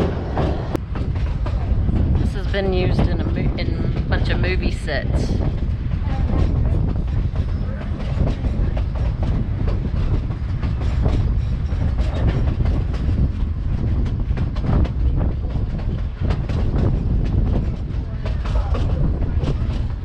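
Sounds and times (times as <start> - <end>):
train car rumble: 0.0 - 20.0
wheels clacking over rails: 0.0 - 20.0.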